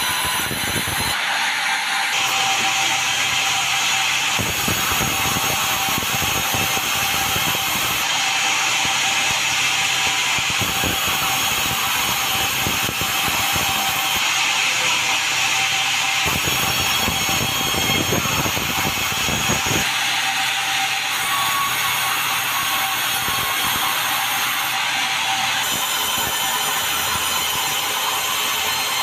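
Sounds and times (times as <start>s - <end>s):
sawmill sawing timber: 0.0s - 29.0s.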